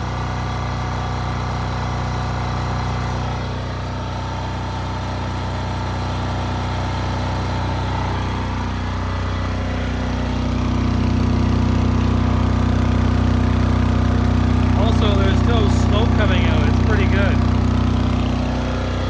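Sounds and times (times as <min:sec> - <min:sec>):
diesel generator engine running: 0:00.0 - 0:19.0.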